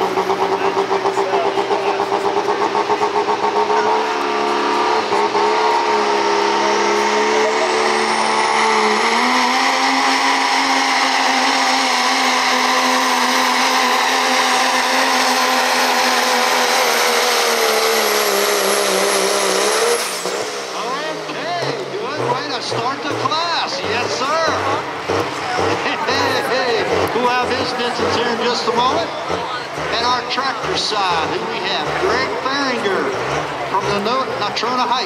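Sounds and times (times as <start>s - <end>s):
diesel engine at full throttle: 0.0s - 35.0s
high turbo whine: 0.0s - 35.0s.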